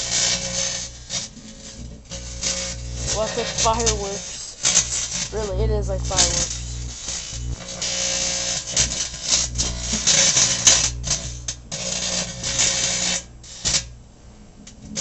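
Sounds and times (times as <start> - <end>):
metal sparking in microwave: 0.0 - 14.0, 14.7 - 15.0
microwave oven hum: 0.0 - 15.0.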